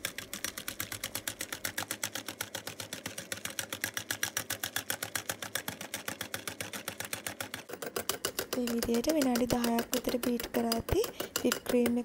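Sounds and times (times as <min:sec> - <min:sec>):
whisk clicking against bowl: 0:00.0 - 0:12.0.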